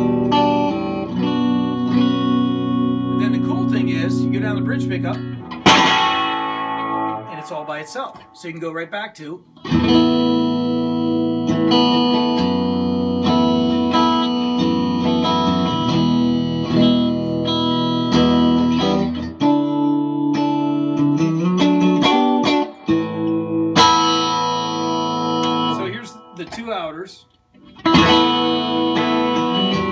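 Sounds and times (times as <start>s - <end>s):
electric guitar playing: 0.0s - 8.6s, 9.5s - 29.9s.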